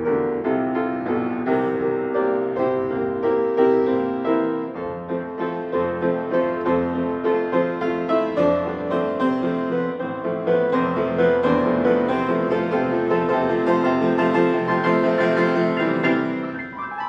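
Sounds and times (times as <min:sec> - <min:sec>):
grand piano waltz: 0:00.0 - 0:17.0.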